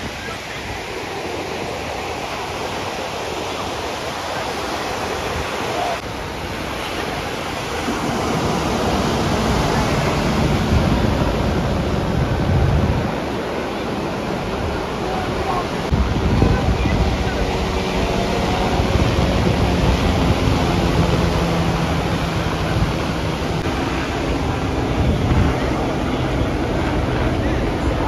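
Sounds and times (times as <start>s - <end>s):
helicopter rotor rumble: 0.0s - 28.0s
ocean surf: 0.0s - 28.0s
wind on microphone: 0.0s - 28.0s.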